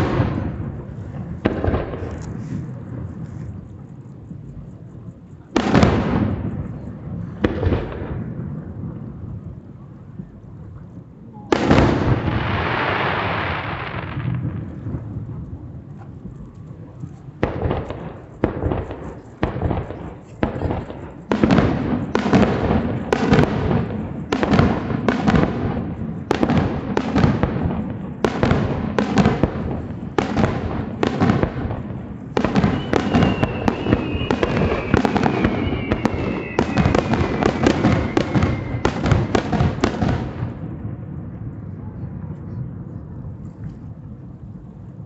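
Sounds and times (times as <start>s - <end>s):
fireworks bursting: 0.0s - 10.8s, 11.4s - 41.6s.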